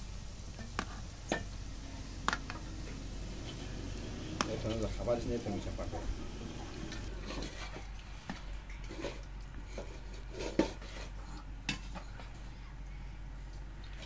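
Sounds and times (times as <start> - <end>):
cooking utensils and pots clinking: 0.6 - 12.4.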